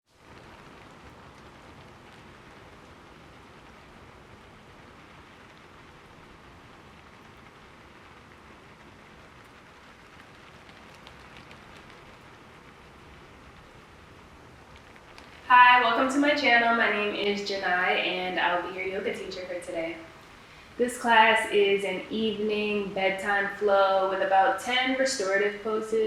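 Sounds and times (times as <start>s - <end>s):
steady rain hiss: 0.0s - 26.0s
rain drop ticks: 0.1s - 25.9s.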